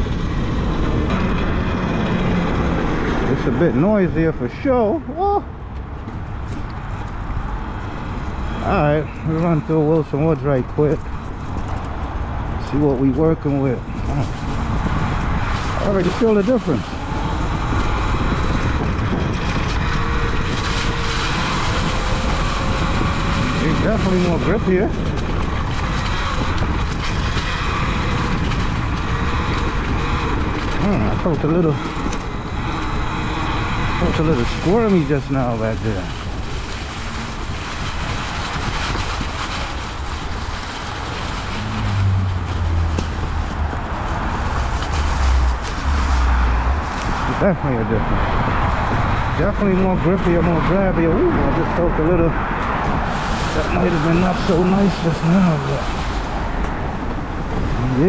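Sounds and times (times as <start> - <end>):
knobby tire rolling: 0.0 - 58.0
wind rushing: 5.4 - 58.0.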